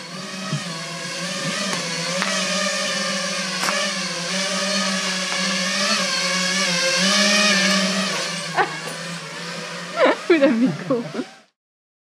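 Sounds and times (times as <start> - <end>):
drone motors buzzing: 0.0 - 11.6.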